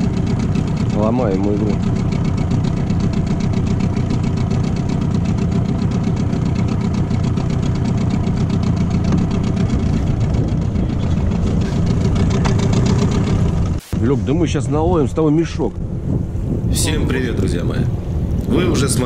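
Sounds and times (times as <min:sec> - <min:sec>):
outboard motor running: 0:00.0 - 0:14.1, 0:15.0 - 0:19.0.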